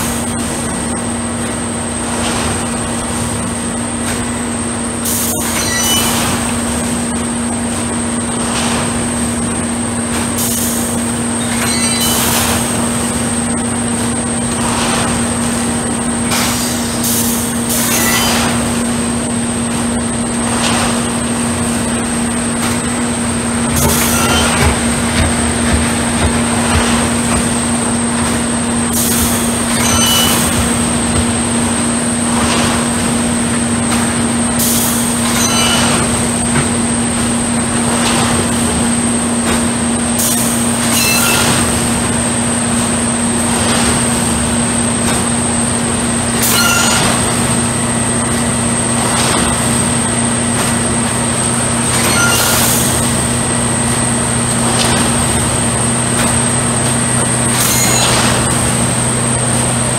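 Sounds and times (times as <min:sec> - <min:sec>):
high mechanical whine: 0:00.0 - 0:59.9
machine engine low drone: 0:00.0 - 0:59.9.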